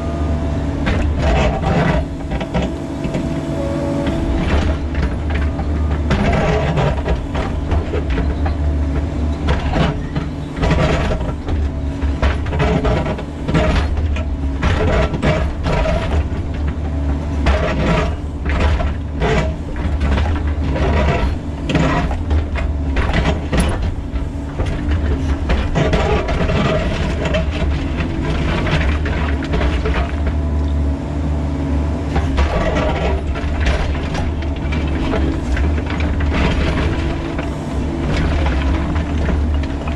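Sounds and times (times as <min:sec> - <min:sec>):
excavator diesel engine running: 0:00.0 - 0:39.9
steel bucket scraping rock: 0:01.0 - 0:02.6, 0:04.0 - 0:08.7, 0:09.4 - 0:30.2, 0:32.3 - 0:39.9.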